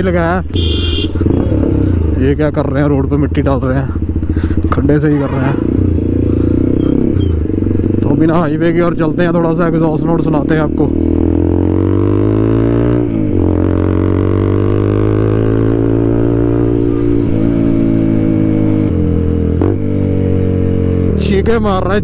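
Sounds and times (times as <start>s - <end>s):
motorcycle engine accelerating hard: 0.6s - 2.4s, 3.4s - 22.0s.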